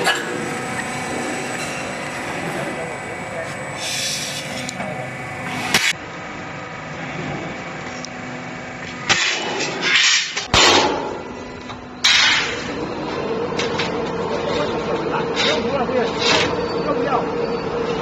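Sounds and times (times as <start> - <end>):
roll forming machine humming: 0.0 - 18.0.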